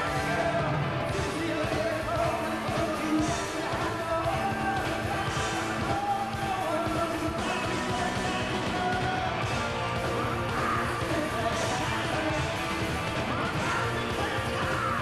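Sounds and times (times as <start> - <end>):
man singing into a microphone: 0.0 - 15.0
rock band playing live: 0.0 - 15.0.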